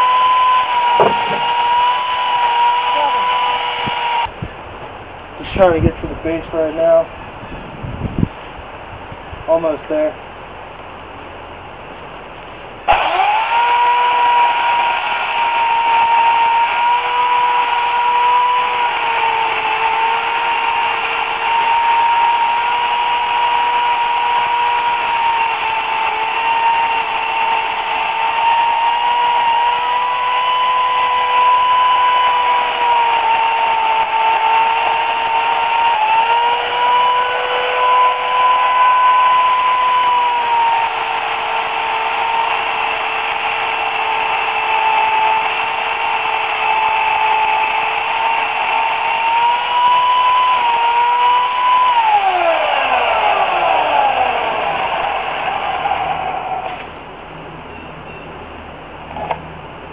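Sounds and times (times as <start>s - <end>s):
electric chainsaw cutting wood: 0.0s - 4.4s, 12.8s - 56.9s.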